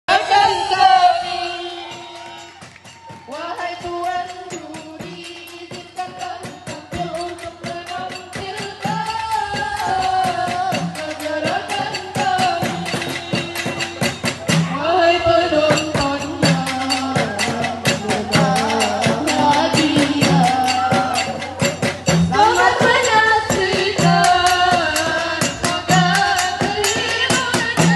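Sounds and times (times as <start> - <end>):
women singing into microphones: 0.1 - 27.9.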